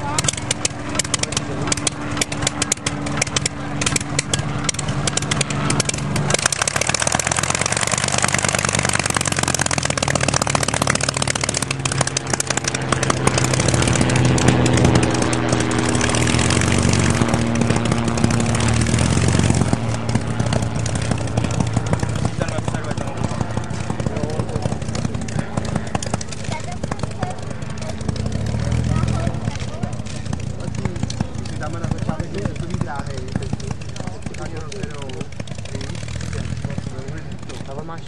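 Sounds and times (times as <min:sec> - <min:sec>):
propeller engine running: 0:00.0 - 0:38.0.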